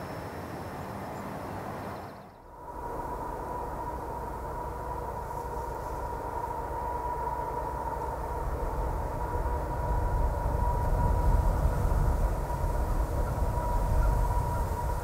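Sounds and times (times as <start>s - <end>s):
train rumbling past: 0.8s - 15.0s
steady whine: 2.4s - 15.0s.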